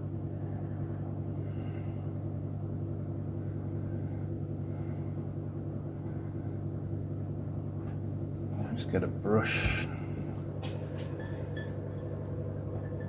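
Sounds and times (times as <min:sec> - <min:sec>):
heater electrical hum: 0:00.0 - 0:13.0.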